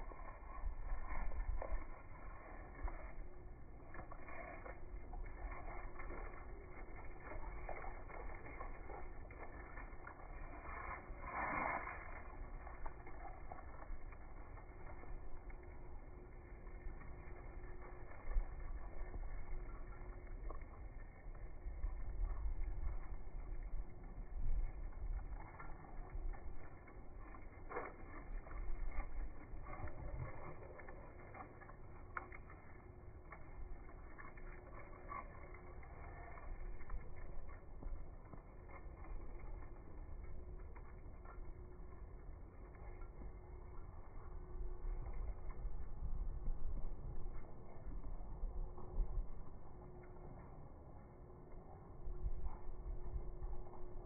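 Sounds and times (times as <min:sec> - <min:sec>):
wind rumbling on microphone: 0:00.0 - 0:54.0
light clicks and rustles: 0:00.2 - 0:44.3.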